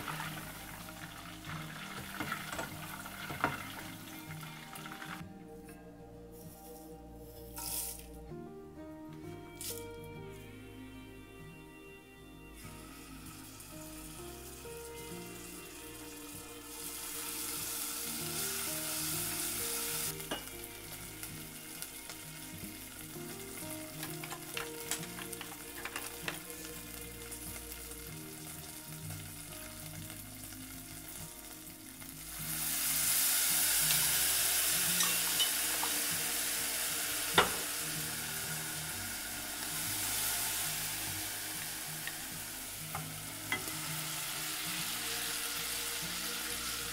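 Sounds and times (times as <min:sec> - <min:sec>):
spices sizzling in hot oil: 0:00.0 - 0:05.3, 0:06.4 - 0:08.2, 0:12.4 - 0:46.9.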